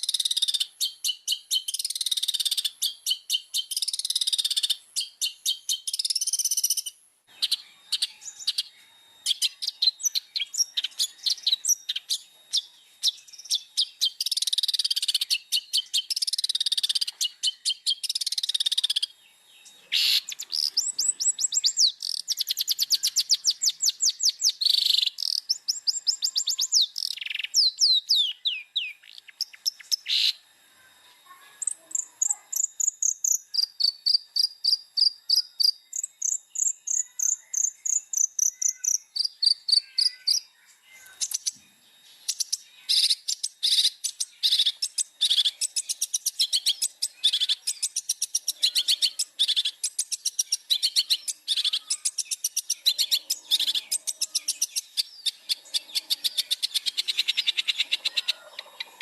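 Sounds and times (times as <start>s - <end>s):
shrike singing: 0.0s - 30.5s, 31.6s - 59.0s.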